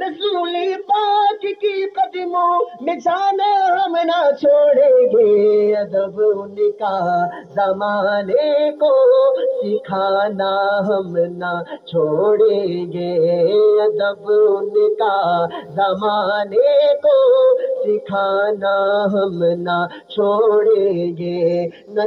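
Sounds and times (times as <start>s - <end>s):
man singing melodic passage: 0.0s - 22.0s.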